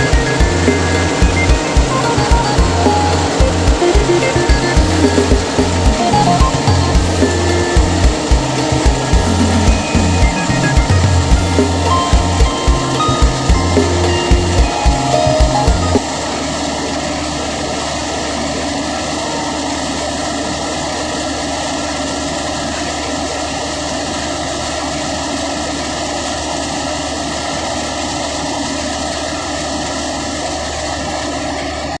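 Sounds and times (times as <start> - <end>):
engine humming steadily: 0.0 - 32.0.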